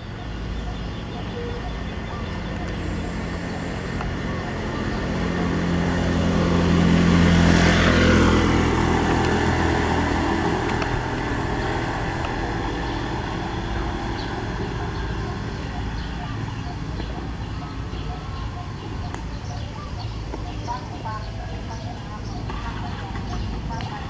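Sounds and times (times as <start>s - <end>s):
motor vehicle passing by: 0.0s - 24.0s.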